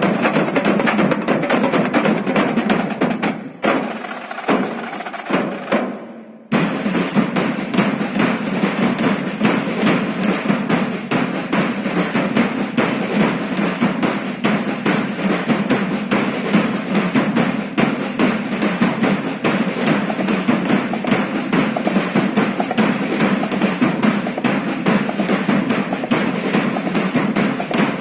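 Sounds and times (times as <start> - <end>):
percussion band drumming: 0.0 - 28.0.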